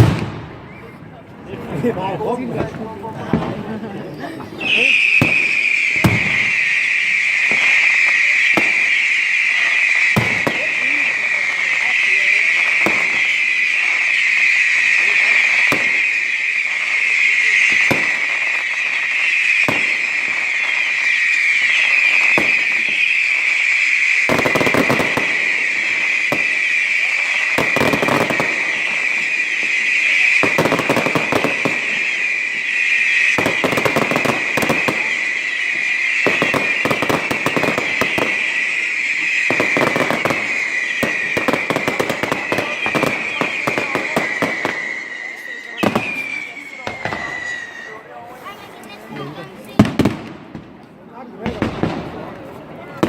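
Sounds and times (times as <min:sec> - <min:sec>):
crackling firework reports: 0:00.0 - 0:53.0
firework bangs: 0:00.0 - 0:53.0.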